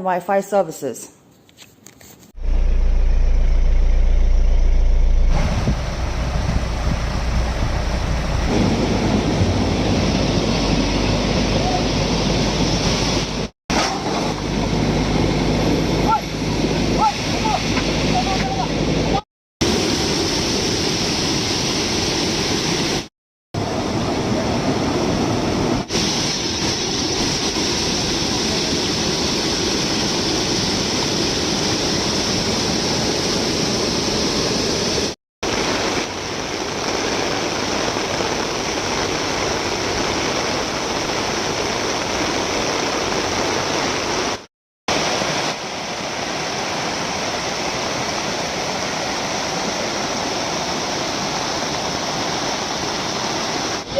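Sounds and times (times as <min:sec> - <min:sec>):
floodwater rushing: 0:02.4 - 0:53.9.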